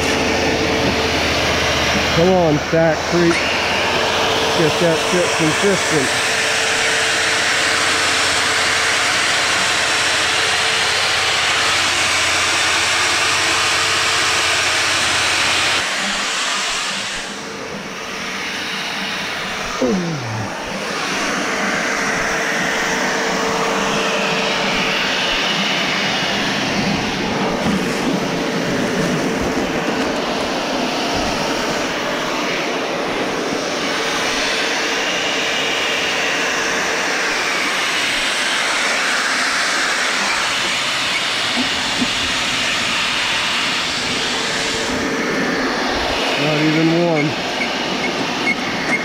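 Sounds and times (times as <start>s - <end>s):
concrete mixer churning: 0.0s - 49.0s
steady hum: 0.0s - 49.0s.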